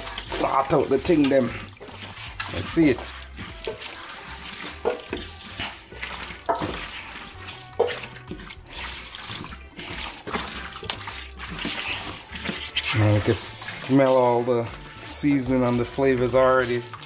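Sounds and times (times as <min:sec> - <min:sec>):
wet meat slapping on steel: 0:00.0 - 0:17.0.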